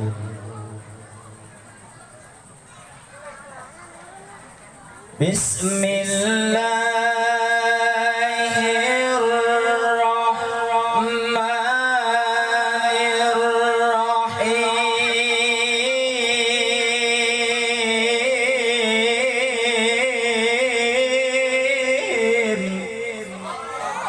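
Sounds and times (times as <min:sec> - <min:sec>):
person reciting melodic chant: 0:00.0 - 0:02.1, 0:05.2 - 0:23.7.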